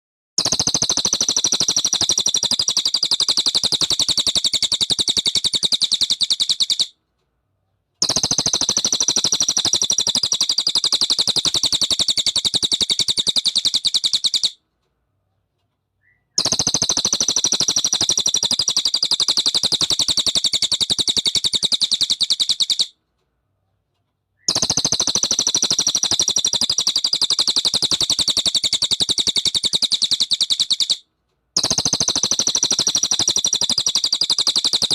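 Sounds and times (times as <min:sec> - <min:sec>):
bird buzzing trill: 0:00.4 - 0:06.8, 0:08.0 - 0:14.5, 0:16.4 - 0:22.9, 0:24.5 - 0:31.0, 0:31.6 - 0:34.9.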